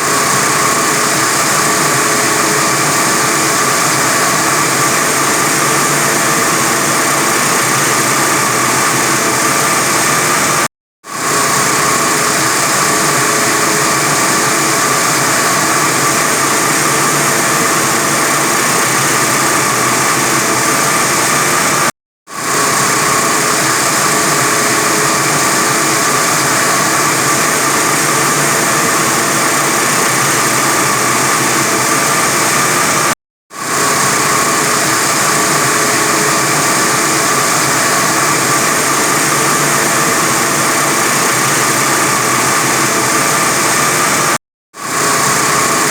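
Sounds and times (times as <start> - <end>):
wire saw cutting concrete: 0.0 - 45.9.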